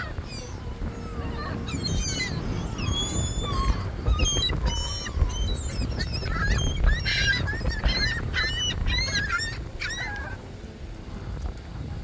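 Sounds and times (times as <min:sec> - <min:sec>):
gulls calling: 0:00.0 - 0:10.9.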